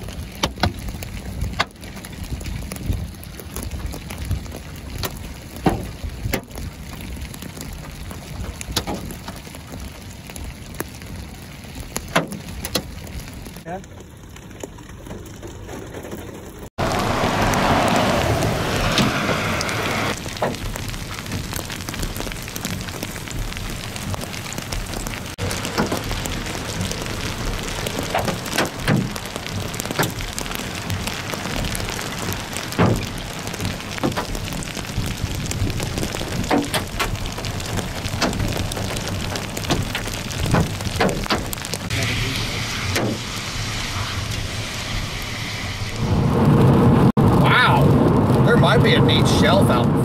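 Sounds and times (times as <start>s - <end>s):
hailstones cracking: 0.0s - 49.9s
heavy rain and hail pattering: 0.0s - 50.0s.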